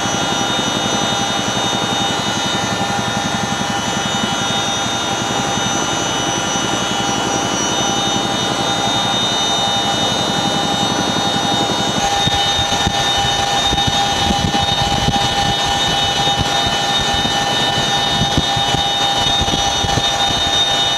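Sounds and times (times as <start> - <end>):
helicopter rotor beat: 0.0 - 20.9
helicopter turbine whine: 0.0 - 20.9.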